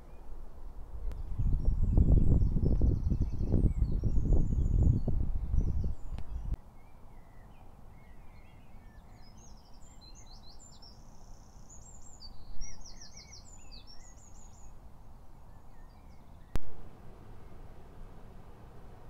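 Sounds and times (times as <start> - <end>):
faint outdoor hiss: 0.0 - 19.0
songbirds chirping and whistling: 1.0 - 16.7.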